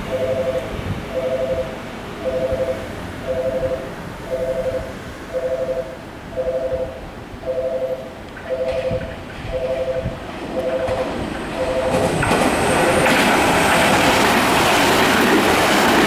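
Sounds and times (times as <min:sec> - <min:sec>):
level crossing warning bell: 0:00.0 - 0:13.7
low rumble of train: 0:00.0 - 0:16.0.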